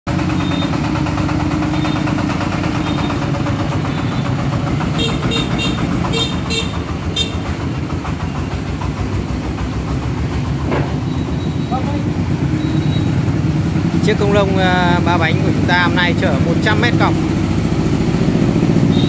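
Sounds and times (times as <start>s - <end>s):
diesel engine chugging: 0.1s - 19.0s.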